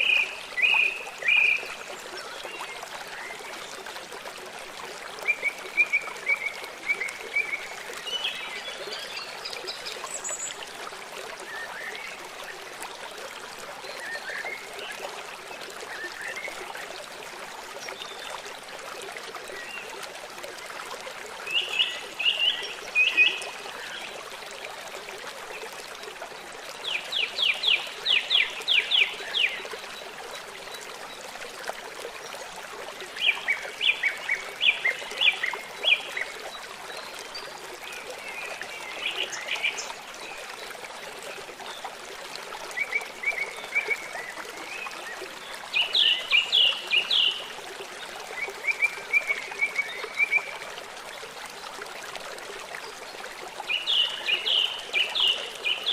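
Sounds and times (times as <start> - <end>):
stream running water: 0.0 - 55.9.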